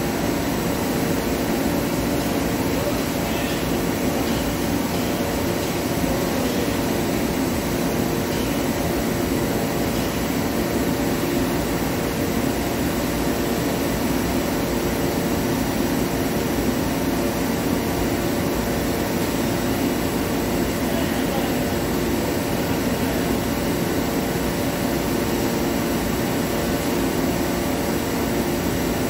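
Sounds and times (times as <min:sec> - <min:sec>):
machinery droning hum: 0:00.0 - 0:29.0.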